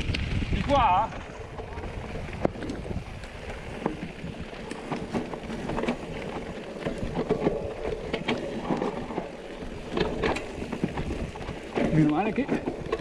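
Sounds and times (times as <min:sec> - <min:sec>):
bike knocks and rattles: 0:00.0 - 0:13.0
tyres crunching over dirt: 0:00.0 - 0:13.0
wind rumble on microphone: 0:00.0 - 0:13.0.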